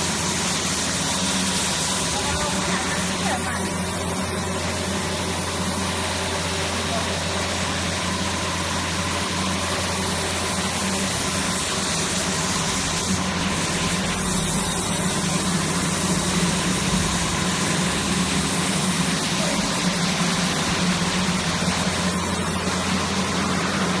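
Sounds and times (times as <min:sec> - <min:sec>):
plasma cutter hum and hiss: 0:00.0 - 0:24.0.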